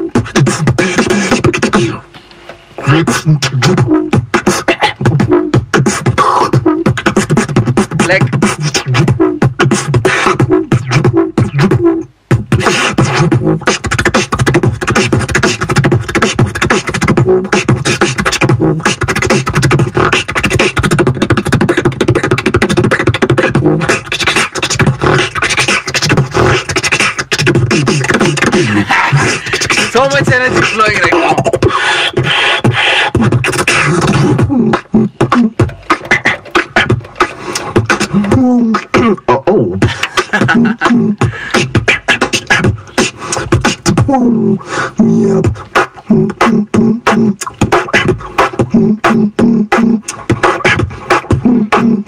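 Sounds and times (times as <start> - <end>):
beatboxing: 0.0 - 52.0.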